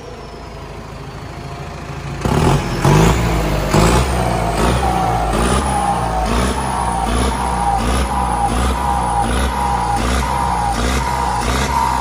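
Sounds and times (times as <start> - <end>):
tractor diesel engine revving: 0.0 - 12.0.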